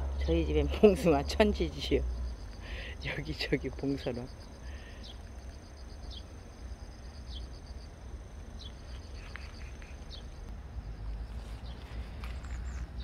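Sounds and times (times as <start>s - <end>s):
insects calling high pulsing: 0.0s - 13.0s.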